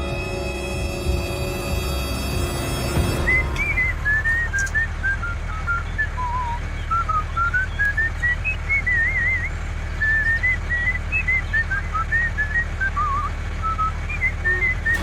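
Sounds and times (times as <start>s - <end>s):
person whistling a tune: 0.0s - 15.0s.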